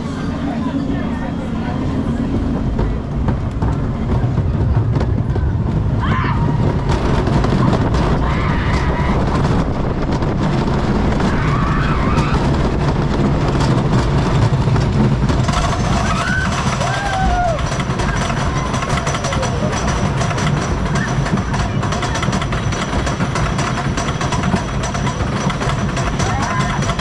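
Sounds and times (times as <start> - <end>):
roller coaster rumbling on track: 0.0 - 27.0.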